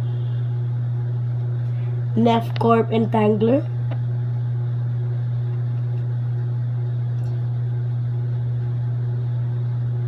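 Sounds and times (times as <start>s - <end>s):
faint pulsing tone: 0.0s - 10.0s
steady low hum: 0.0s - 10.0s.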